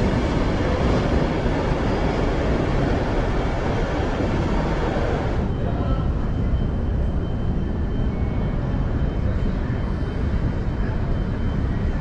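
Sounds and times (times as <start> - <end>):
faint high whine: 0.0 - 12.0
train low rumble: 0.0 - 12.0.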